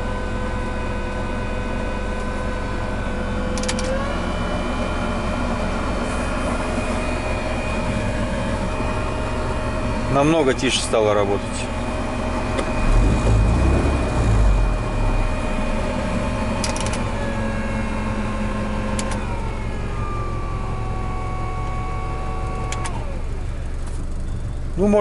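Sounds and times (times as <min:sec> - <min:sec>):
fan motor whining: 0:02.2 - 0:24.3.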